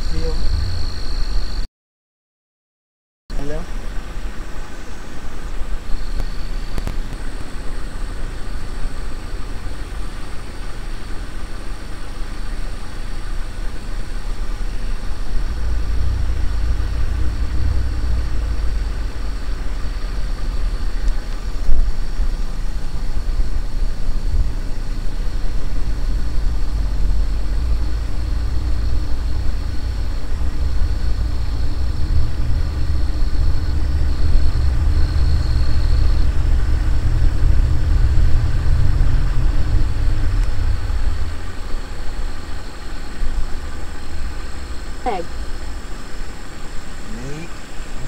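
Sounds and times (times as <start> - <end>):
car engine rumble: 0.0 - 1.7, 3.3 - 48.0
road noise: 0.0 - 1.7, 3.3 - 48.0.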